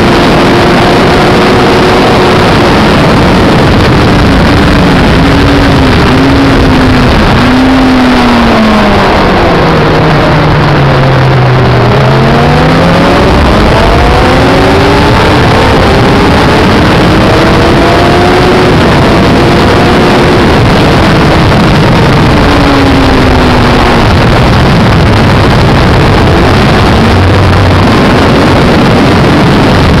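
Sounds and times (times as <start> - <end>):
motorcycle engine at high revs: 0.0 - 30.0
wind rush over microphone: 0.0 - 30.0.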